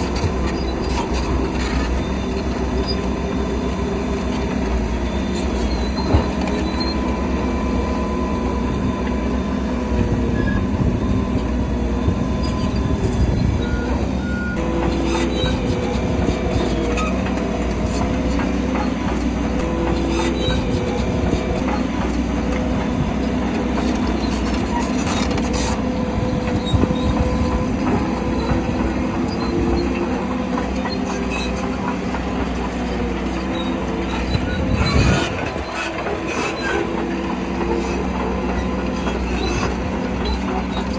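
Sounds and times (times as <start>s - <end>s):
bulldozer diesel engine under load: 0.0s - 40.9s
steel tracks clanking and squealing: 0.0s - 40.9s.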